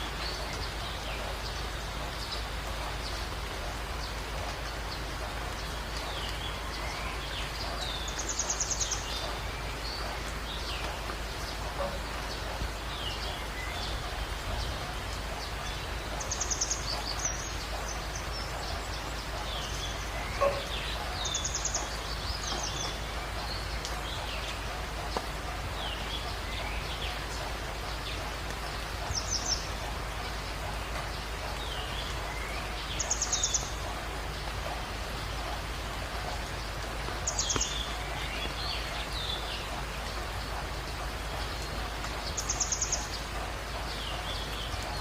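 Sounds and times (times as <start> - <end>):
birds trilling and chirping: 0.0 - 45.0
steady rain: 0.0 - 45.0.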